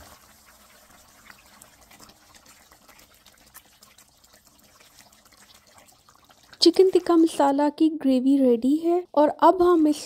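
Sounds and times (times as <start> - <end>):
gravy bubbling and popping: 0.0 - 10.0.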